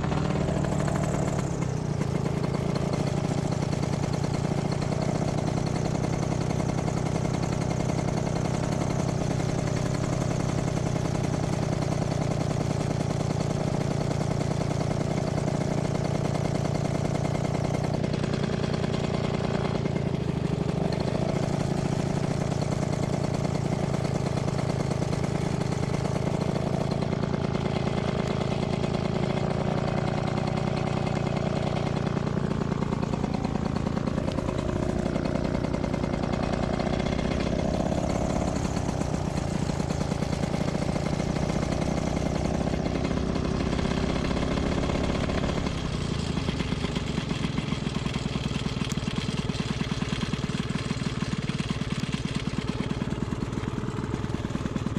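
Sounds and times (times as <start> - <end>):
paramotor engine idling: 0.0 - 54.9.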